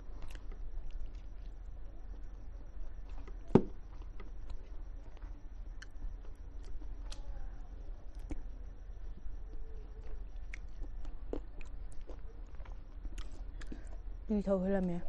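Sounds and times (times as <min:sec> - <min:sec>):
chewing with wet mouth noises: 0:00.1 - 0:14.1.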